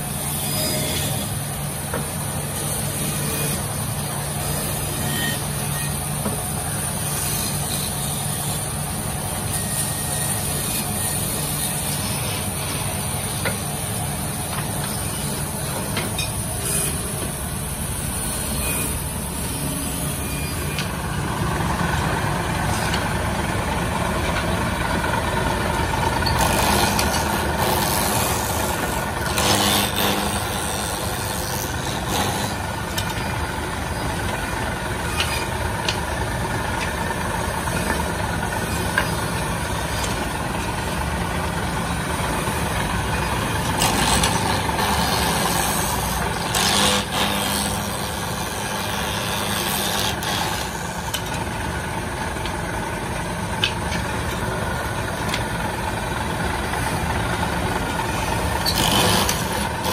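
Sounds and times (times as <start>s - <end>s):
band saw cutting wood: 0.0s - 23.1s, 25.6s - 51.6s, 56.1s - 59.9s.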